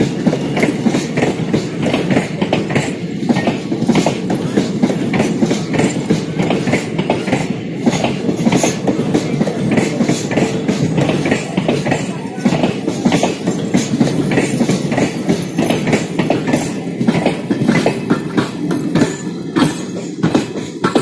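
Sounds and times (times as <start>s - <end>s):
train wheels rumbling on rails: 0.0s - 21.0s
wheels clacking over rail joints: 0.0s - 21.0s.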